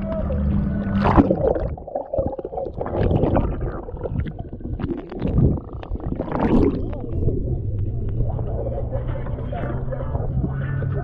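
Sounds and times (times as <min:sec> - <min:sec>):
water sloshing and gurgling: 0:00.0 - 0:10.6.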